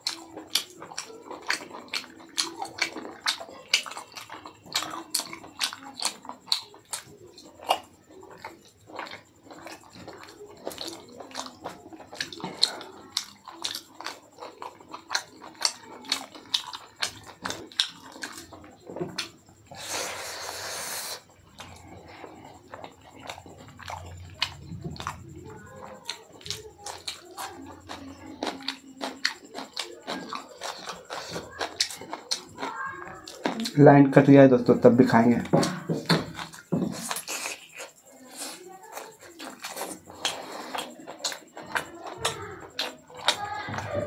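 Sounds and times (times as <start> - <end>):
man chewing and lip-smacking: 0.0 - 44.0.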